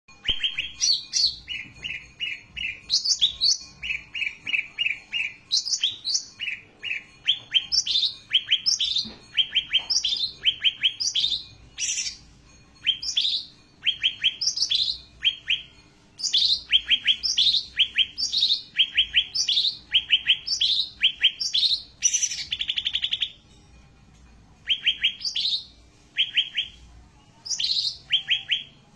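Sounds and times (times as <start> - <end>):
songbird singing: 0.2 - 23.8, 24.6 - 28.9.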